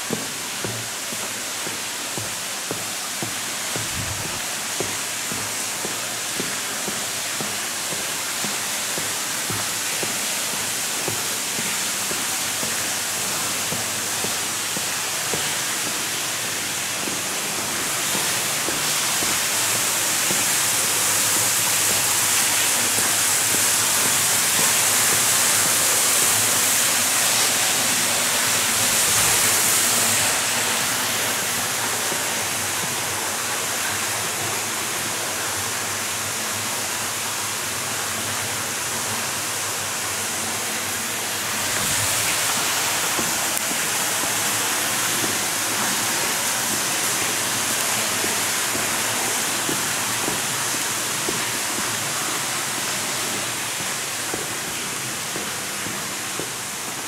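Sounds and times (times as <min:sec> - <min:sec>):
rushing tunnel ambience: 0:00.0 - 0:57.0.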